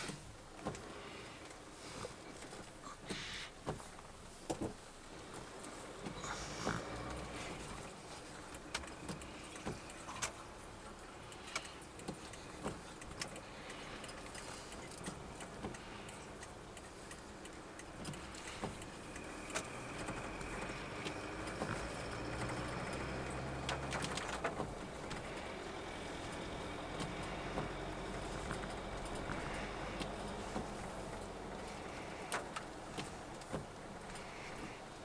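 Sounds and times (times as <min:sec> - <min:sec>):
car engine rumbling: 0:00.0 - 0:35.0.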